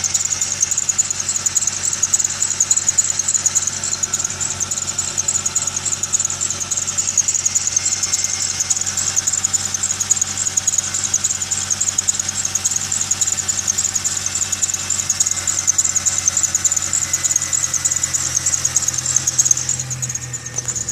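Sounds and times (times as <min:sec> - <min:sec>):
belt squealing: 0:00.0 - 0:20.9
low engine hum: 0:00.0 - 0:20.9.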